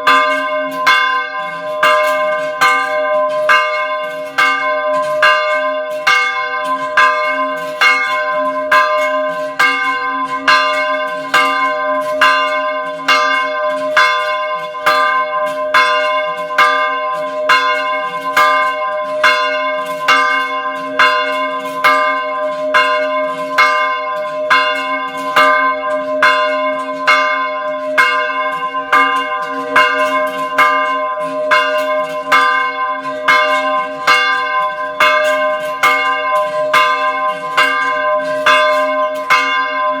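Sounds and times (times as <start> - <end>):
small church bell ringing: 0.0 - 40.0.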